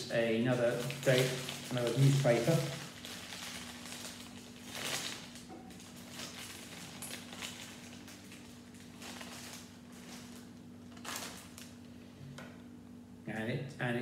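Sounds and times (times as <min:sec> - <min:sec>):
plastic bag rustling: 0:00.0 - 0:12.2.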